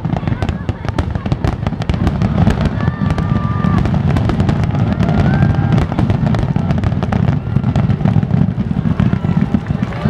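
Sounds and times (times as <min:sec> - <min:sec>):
low rumble of firework booms: 0:00.0 - 0:10.0
rapid firework crackling: 0:00.0 - 0:10.0.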